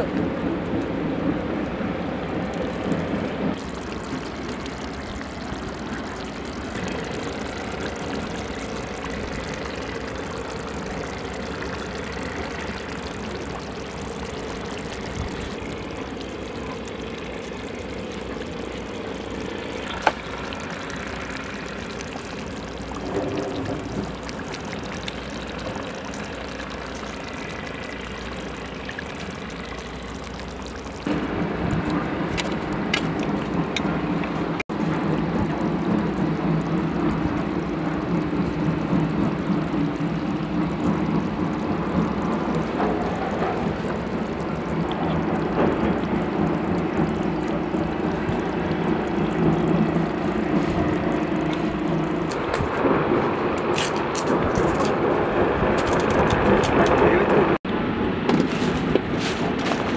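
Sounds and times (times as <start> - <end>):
pot bubbling over fire: 1.7 - 57.2, 58.3 - 59.9.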